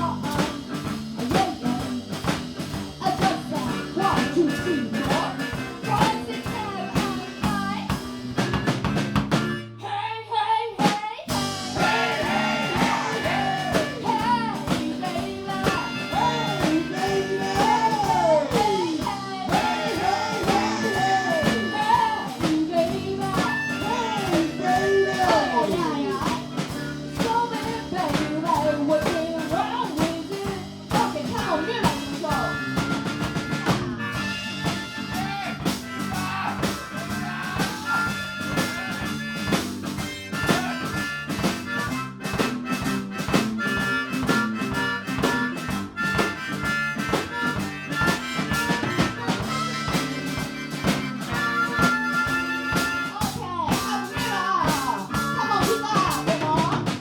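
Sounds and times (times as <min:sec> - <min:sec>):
blues band playing: 0:00.0 - 0:09.9, 0:10.8 - 0:57.0
harmonica high notes: 0:01.6 - 0:09.9, 0:11.3 - 0:57.0.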